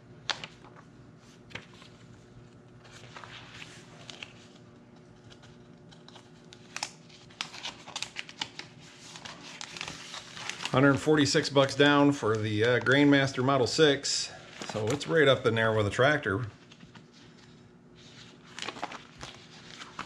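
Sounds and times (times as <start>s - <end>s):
paper and plastic sleeve rustling: 0.3s - 20.0s.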